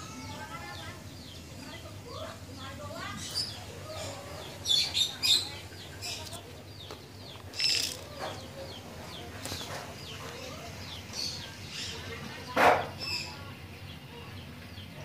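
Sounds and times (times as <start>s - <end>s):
small birds chirping faintly: 0.0s - 15.0s.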